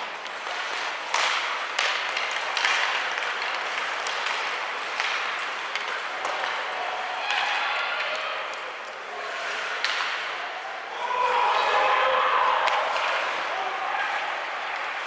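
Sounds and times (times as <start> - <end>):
hockey sticks clacking on puck: 0.0 - 15.0
skates scraping ice: 0.0 - 15.0.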